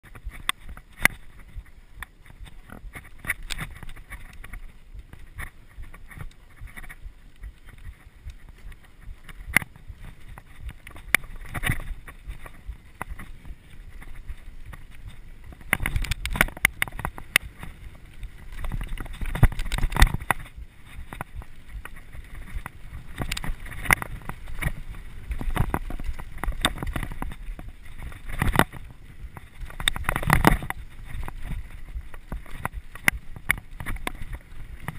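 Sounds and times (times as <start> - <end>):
bike rattling and clacking: 0.0 - 34.9
bike tyres rumbling on dirt: 0.0 - 34.9.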